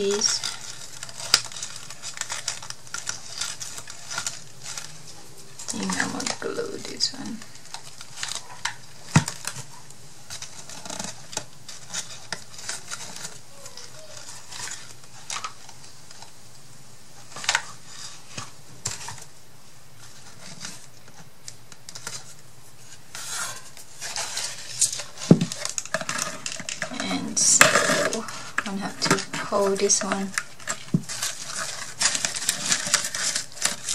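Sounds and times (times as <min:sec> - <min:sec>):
rustling: 0:00.0 - 0:33.9.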